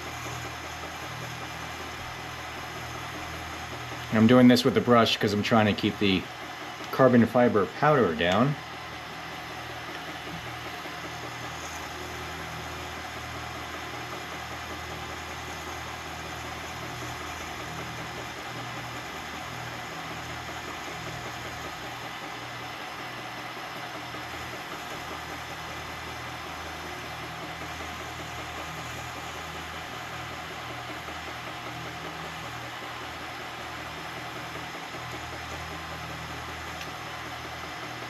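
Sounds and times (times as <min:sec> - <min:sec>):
milling machine cutting: 0:00.0 - 0:38.0.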